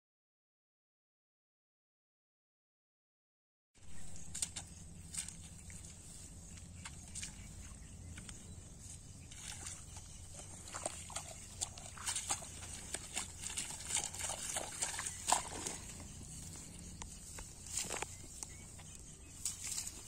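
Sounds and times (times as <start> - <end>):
hands squelching in wet mud: 3.9 - 20.0.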